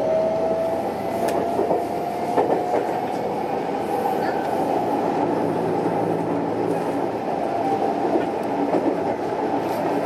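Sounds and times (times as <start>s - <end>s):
train wheels rolling on rails: 0.4s - 10.0s.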